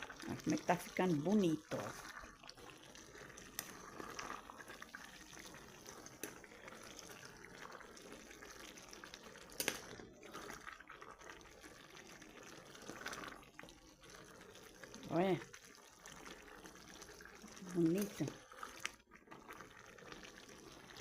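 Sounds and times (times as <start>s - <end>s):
stew bubbling in a pot: 0.0s - 21.0s.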